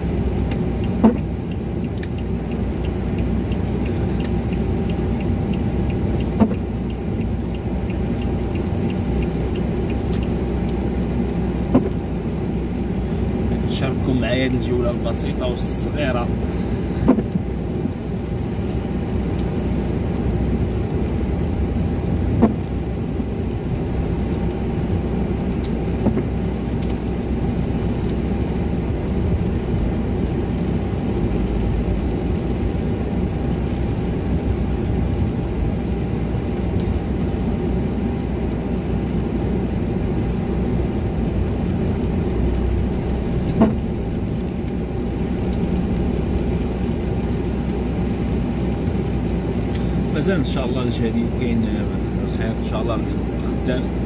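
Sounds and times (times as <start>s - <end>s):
engine and tyre rumble: 0.0s - 54.0s.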